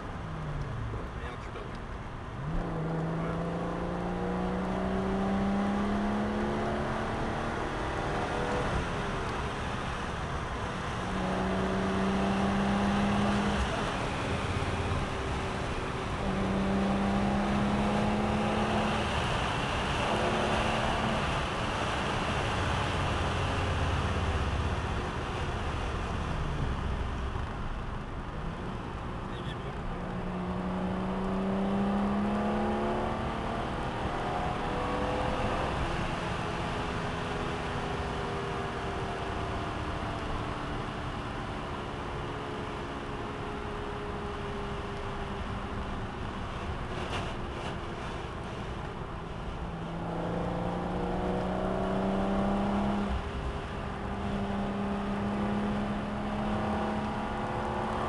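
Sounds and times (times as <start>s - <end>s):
car engine accelerating through gears: 0.0s - 58.0s
road noise: 0.0s - 58.0s.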